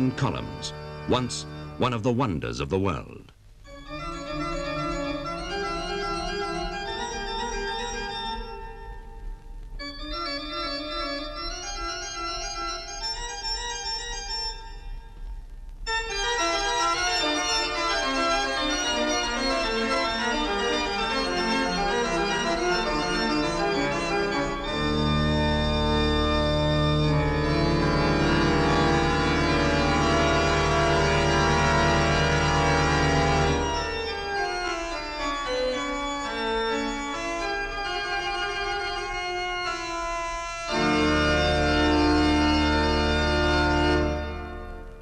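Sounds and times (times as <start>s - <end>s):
instrumental soundtrack music: 0.0s - 45.0s.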